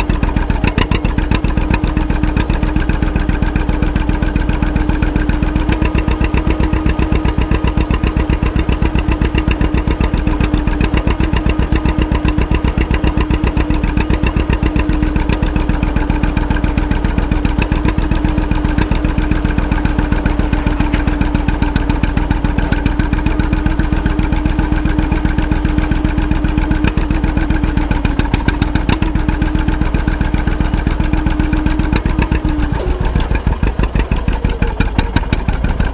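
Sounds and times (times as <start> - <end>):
tractor engine running under load: 0.0 - 35.9.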